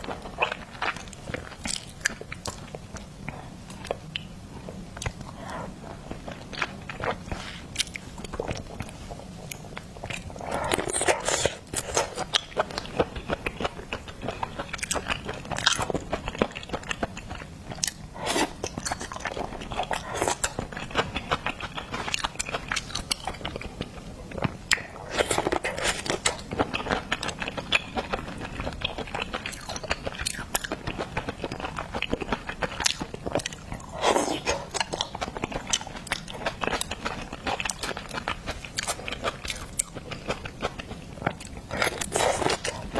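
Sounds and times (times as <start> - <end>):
crunchy chewing: 0.0 - 42.9.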